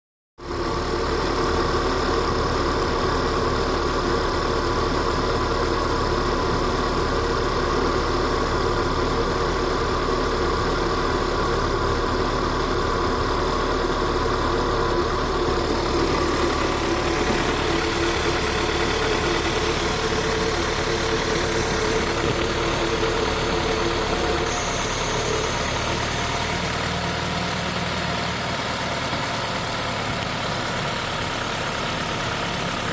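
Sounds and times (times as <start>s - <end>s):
car engine idling: 0.4s - 32.9s.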